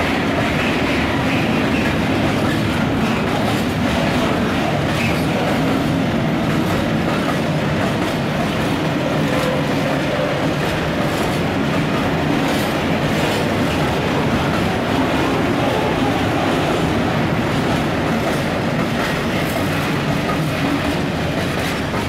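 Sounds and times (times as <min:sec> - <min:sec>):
steel wheels rumbling on rail: 0:00.0 - 0:22.0
wheels clicking over rail joints: 0:00.0 - 0:22.0.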